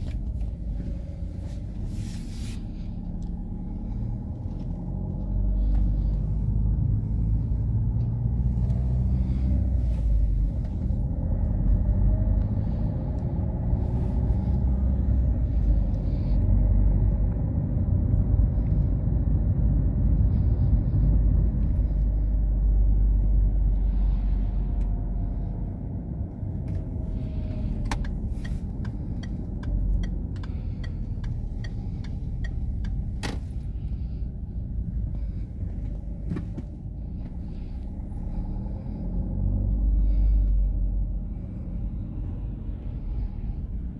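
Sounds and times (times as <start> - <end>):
car engine and tyre noise: 0.0 - 43.9.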